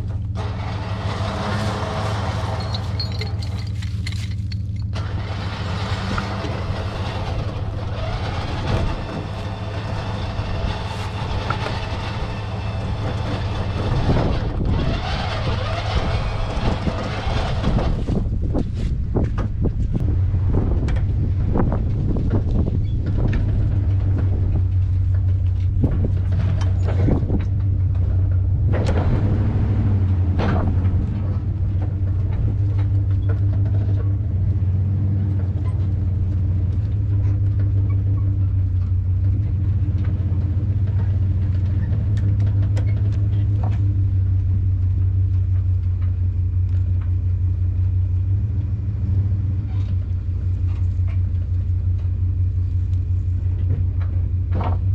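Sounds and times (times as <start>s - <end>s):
knocks and clunks: 0.0s - 34.5s, 35.4s - 46.2s, 53.4s - 54.9s
small engine running steadily: 0.0s - 54.9s.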